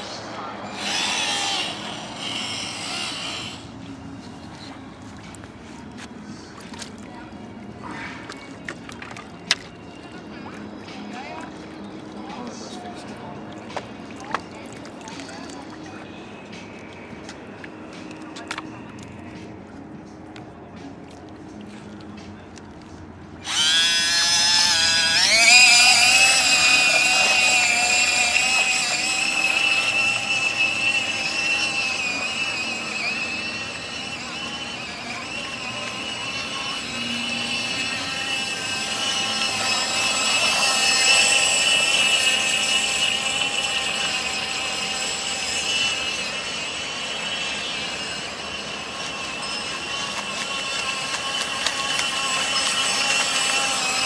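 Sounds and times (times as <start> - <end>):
small boat motor whine: 0.0 - 54.0.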